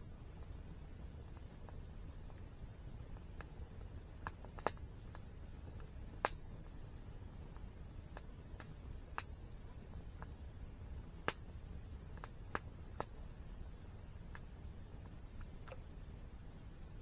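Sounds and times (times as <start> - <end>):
campfire wood crackling: 0.0 - 17.0.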